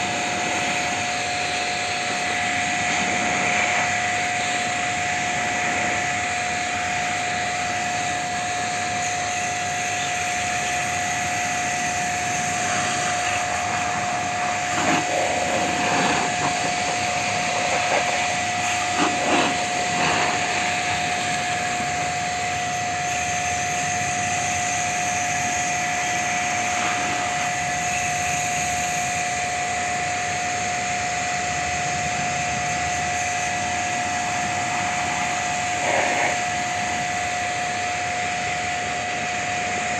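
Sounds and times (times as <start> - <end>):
pressure washer whining: 0.0 - 39.9
water jet hissing on metal: 0.0 - 39.9.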